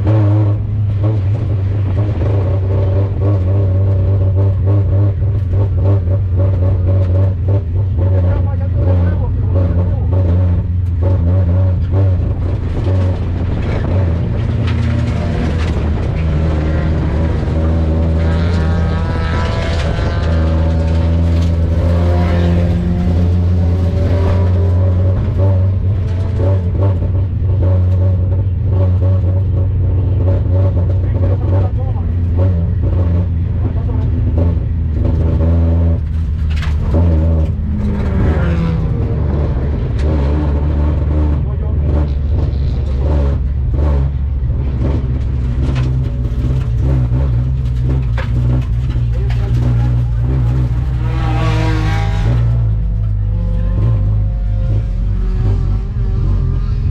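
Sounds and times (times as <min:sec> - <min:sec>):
race car engine running: 0:00.0 - 0:56.9.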